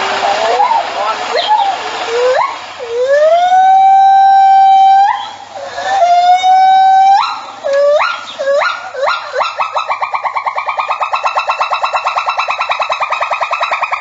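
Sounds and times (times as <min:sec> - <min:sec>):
young animal crying: 0:00.5 - 0:14.0.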